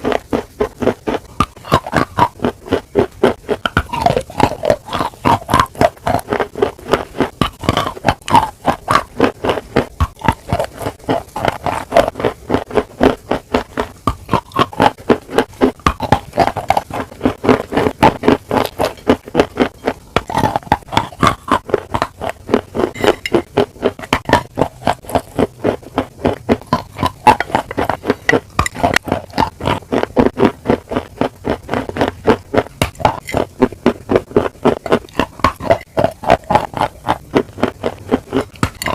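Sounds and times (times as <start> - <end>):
person chewing wetly: 0.0 - 38.9.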